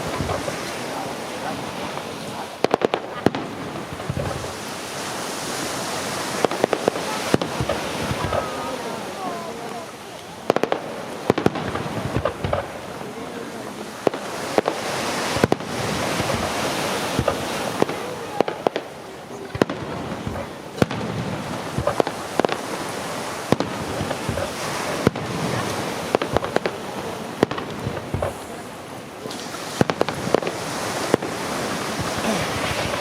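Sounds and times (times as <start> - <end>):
firework shells bursting: 0.0 - 8.6, 10.4 - 13.0, 14.0 - 33.0.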